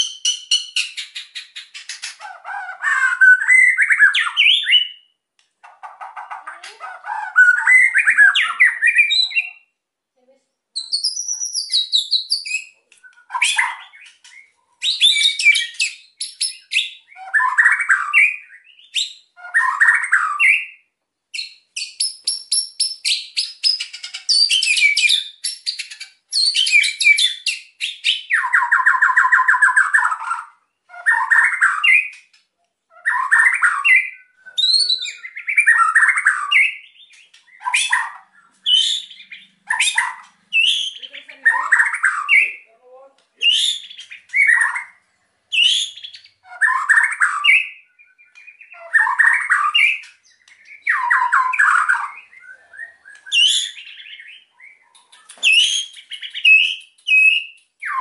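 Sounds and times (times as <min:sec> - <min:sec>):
songbird singing: 0:00.0 - 0:09.9, 0:10.5 - 0:58.0.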